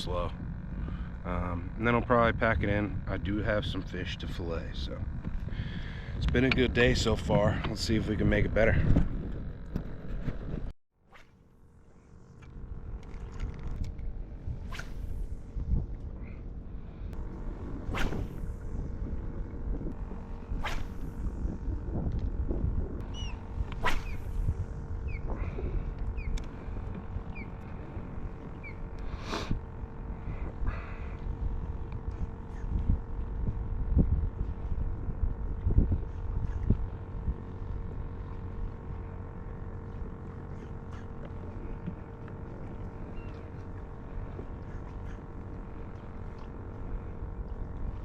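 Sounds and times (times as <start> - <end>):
low rumble: 0.0 - 10.7, 11.4 - 48.0
steady hum: 0.0 - 48.0.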